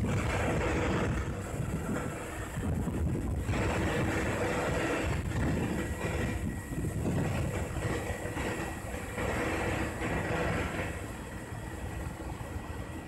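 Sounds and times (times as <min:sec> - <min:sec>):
snow blower engine rumbling: 0:00.0 - 0:11.8.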